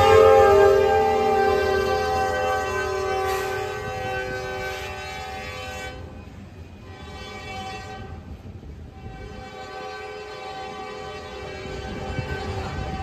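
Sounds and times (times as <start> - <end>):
locomotive air horn: 0.0 - 13.0
train rumble: 0.0 - 13.0.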